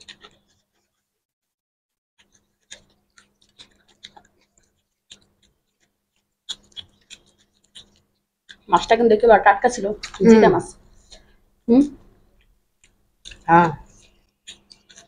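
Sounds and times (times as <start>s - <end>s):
chewing clicks and smacks: 0.0s - 0.6s, 2.2s - 9.0s, 9.7s - 15.0s.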